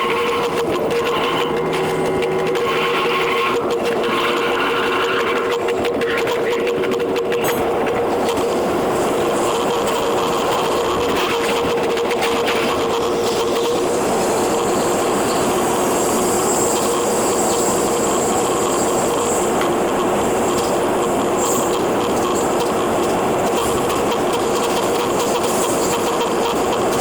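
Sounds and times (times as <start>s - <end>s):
electric train running: 0.0s - 27.0s.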